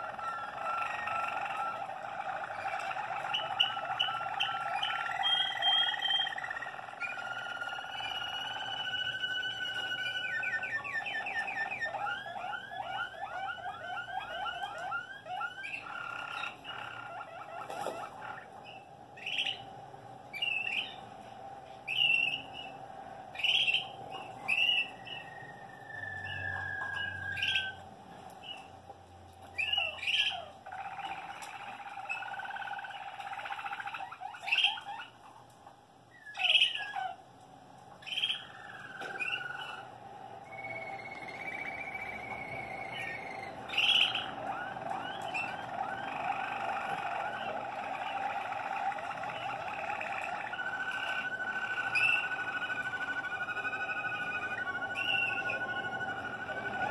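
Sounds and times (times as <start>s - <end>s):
canaries singing: 0.0s - 56.9s.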